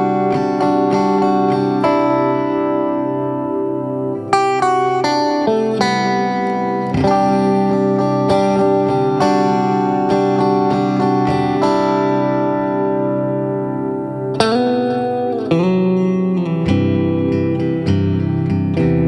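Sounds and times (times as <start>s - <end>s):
solo guitar melody: 0.0s - 19.0s.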